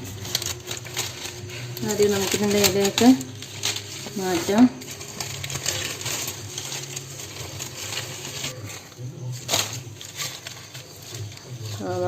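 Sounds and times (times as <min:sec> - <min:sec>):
leaves rustling and crackling: 0:00.0 - 0:12.0.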